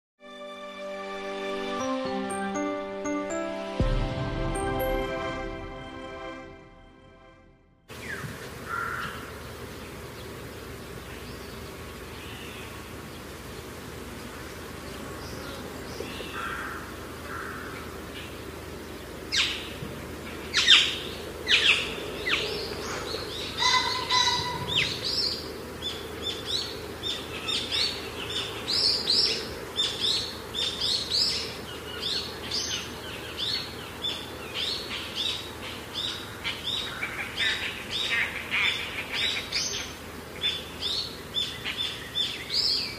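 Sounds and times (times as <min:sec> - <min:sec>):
outdoor background noise: 0:07.8 - 0:42.9
birds chirping: 0:07.9 - 0:42.9.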